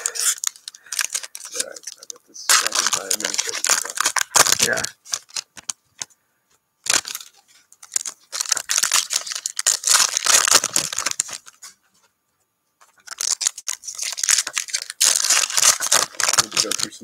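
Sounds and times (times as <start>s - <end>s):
foil packs tearing and crinkling: 0.0s - 5.7s, 6.8s - 11.6s, 13.0s - 17.0s.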